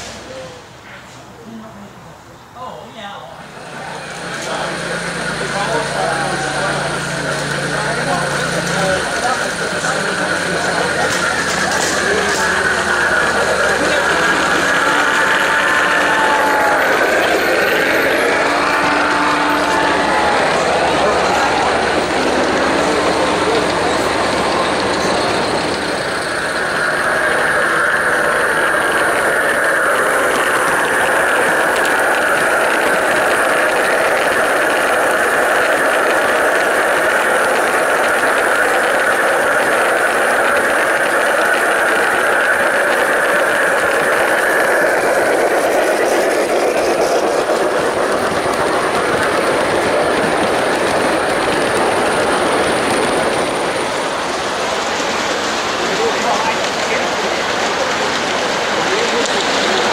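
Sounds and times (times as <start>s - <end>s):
model train wheels clattering: 4.1s - 59.9s.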